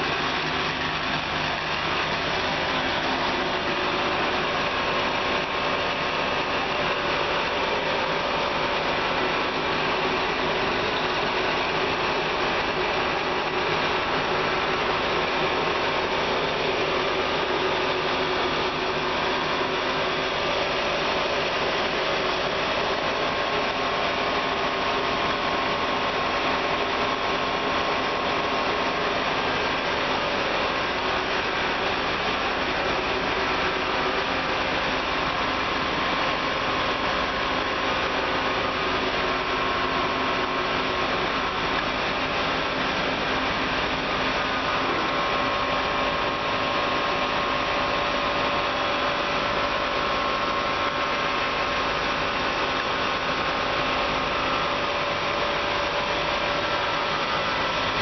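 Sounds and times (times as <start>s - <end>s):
air blower whirring drone: 0.0s - 58.0s.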